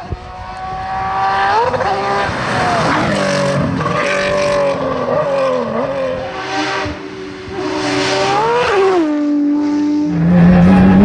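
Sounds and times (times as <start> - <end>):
race car engine at full throttle: 0.0 - 11.0.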